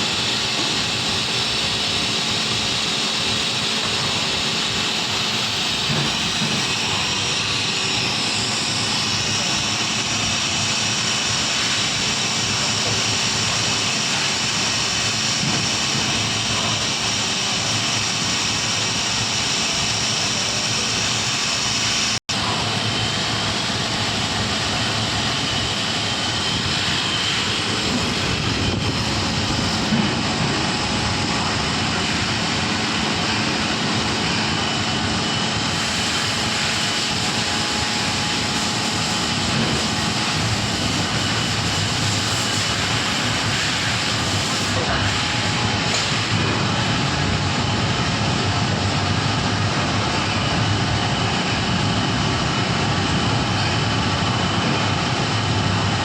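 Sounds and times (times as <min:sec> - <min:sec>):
industrial machinery rushing noise: 0:00.0 - 0:56.0.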